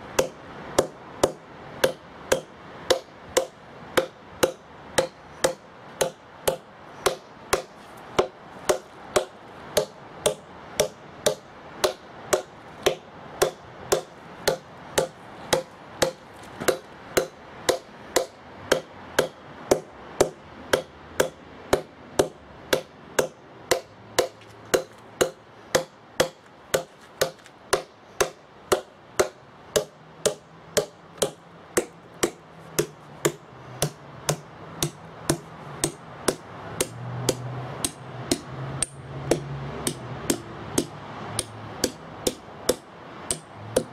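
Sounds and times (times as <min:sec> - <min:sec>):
hammer striking steel wedges: 0:00.2 - 0:43.9.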